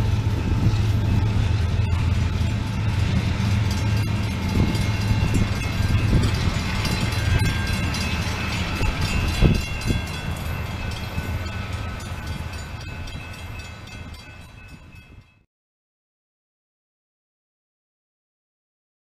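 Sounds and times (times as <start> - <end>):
train rumbling on track: 0.0 - 15.4.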